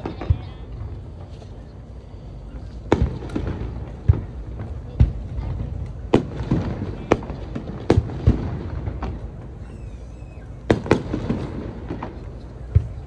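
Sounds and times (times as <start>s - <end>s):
fireworks bangs: 0.0s - 1.4s, 2.8s - 13.0s.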